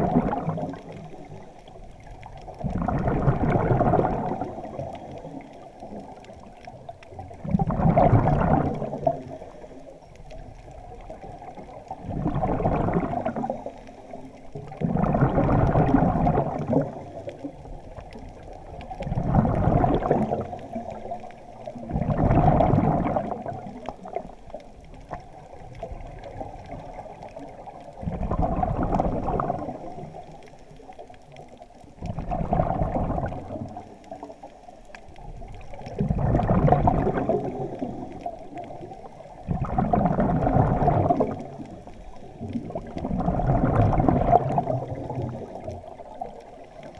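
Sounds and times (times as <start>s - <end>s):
exhaled breath bubbling underwater: 0.0s - 6.2s, 7.3s - 10.0s, 11.0s - 24.3s, 25.8s - 30.3s, 32.0s - 34.3s, 35.4s - 46.9s.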